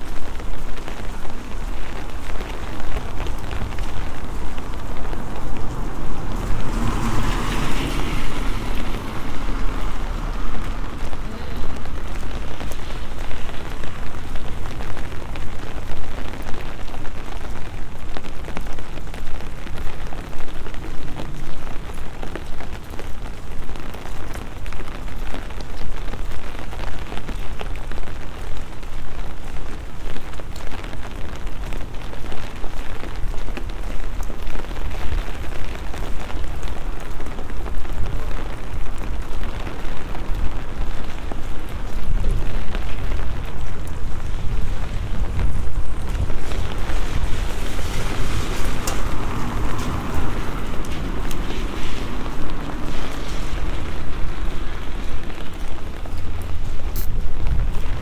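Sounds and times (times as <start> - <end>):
rain on wet paving: 0.0 - 58.0.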